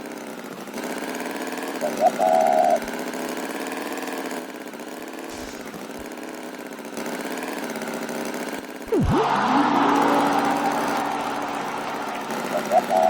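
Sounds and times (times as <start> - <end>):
engine idling: 0.0 - 7.3, 8.1 - 13.0.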